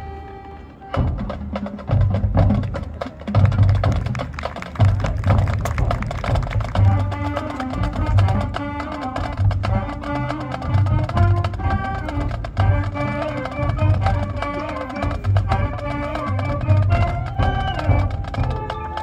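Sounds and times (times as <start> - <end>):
low drums beating: 0.0 - 19.0
marching band playing: 0.0 - 19.0.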